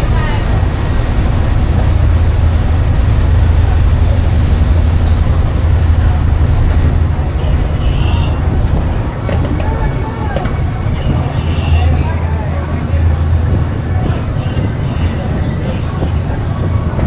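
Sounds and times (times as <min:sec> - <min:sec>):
boat engine rumbling: 0:00.0 - 0:17.0
faint voices: 0:00.0 - 0:17.0.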